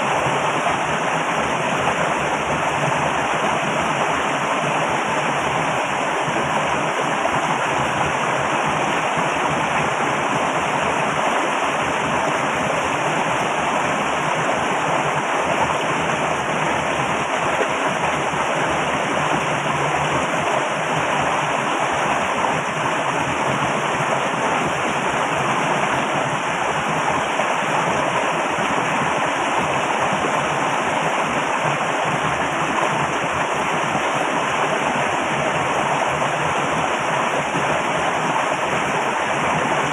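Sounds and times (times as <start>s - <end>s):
rushing flowing water: 0.0s - 39.9s.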